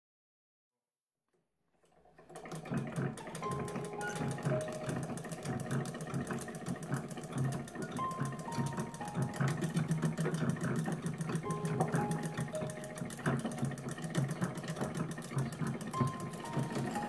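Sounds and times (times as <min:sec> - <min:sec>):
sewing machine running: 0:01.8 - 0:17.0.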